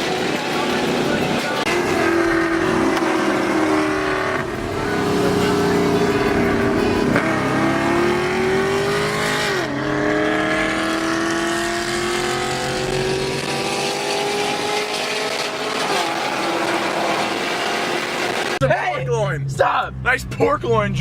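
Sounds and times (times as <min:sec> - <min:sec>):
car engine accelerating through gears: 0:00.0 - 0:18.6.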